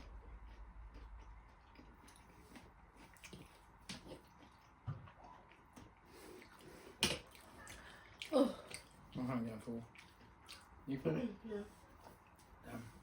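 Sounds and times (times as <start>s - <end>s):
soft wet chewing: 0.0s - 13.0s.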